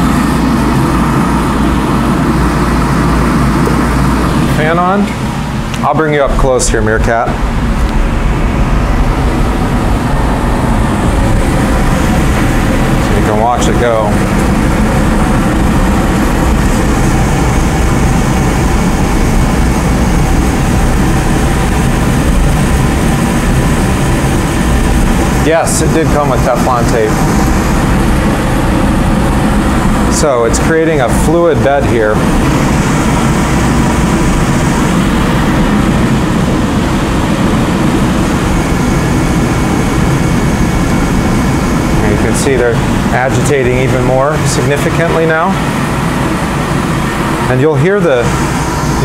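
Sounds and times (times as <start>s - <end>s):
coffee roaster blower rushing air: 0.0s - 49.0s.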